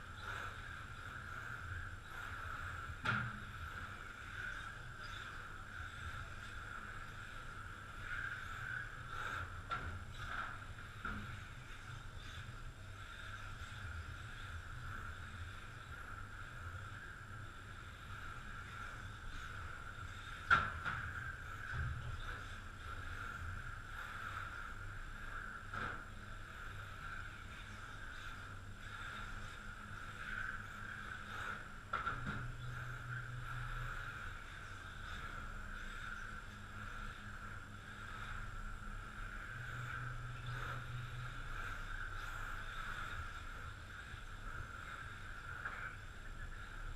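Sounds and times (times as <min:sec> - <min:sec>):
low hum: 0:00.0 - 0:46.9.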